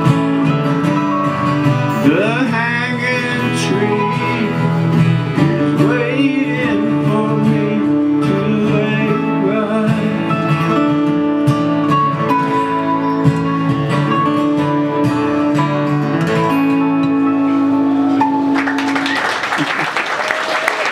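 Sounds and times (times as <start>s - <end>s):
acoustic guitars and mandolin playing: 0.0s - 18.9s.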